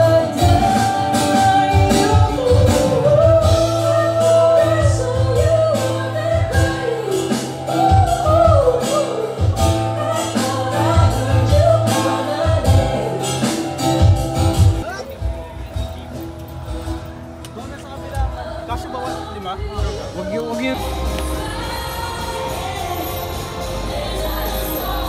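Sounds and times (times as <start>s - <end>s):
woman singing: 0.0s - 14.2s, 18.2s - 25.0s
strummed acoustic guitar: 0.0s - 21.5s.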